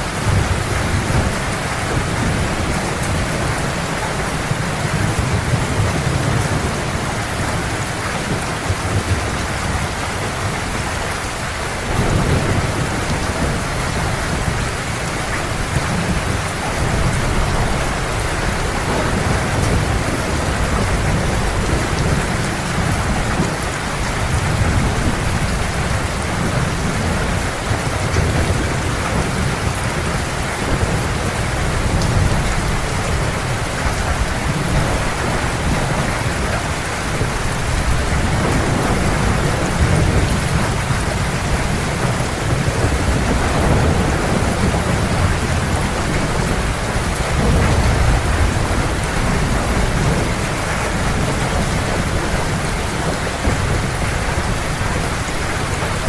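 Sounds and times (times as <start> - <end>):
heavy rain hissing: 0.0 - 56.0
rolling thunder: 0.0 - 56.0.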